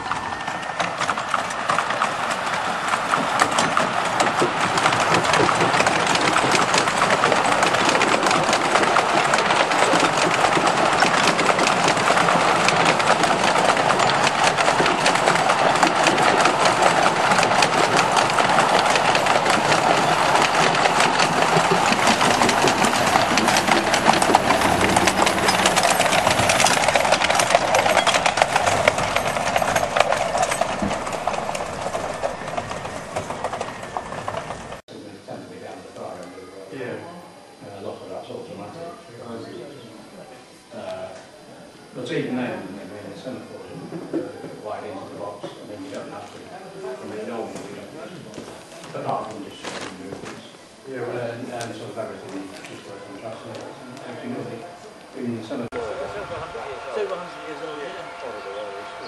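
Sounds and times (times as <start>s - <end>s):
wheels clattering on track: 0.0s - 34.9s, 42.0s - 59.0s.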